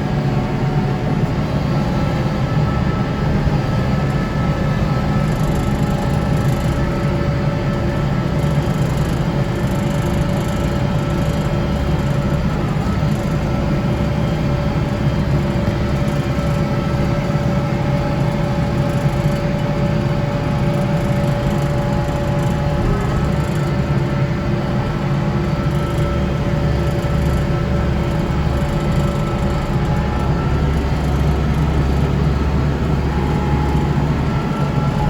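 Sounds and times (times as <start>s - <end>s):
snow blower whine: 0.0s - 35.0s
tractor diesel engine droning: 0.0s - 35.0s.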